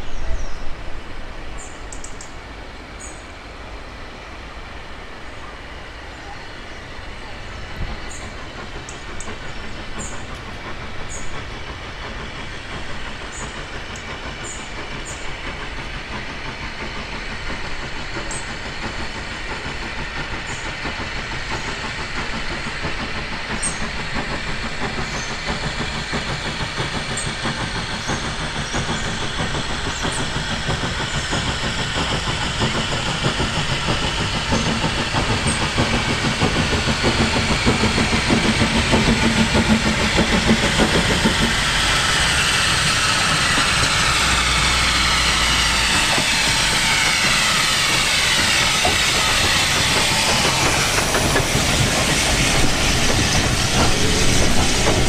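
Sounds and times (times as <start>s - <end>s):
steam locomotive approaching: 0.0s - 55.0s.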